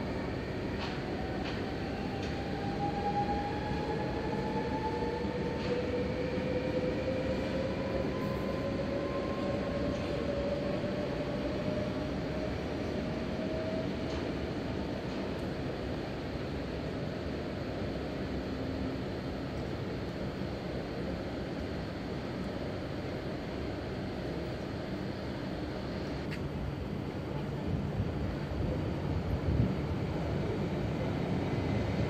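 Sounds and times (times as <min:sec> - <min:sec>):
wheels rumbling on rail: 0:00.0 - 0:32.0.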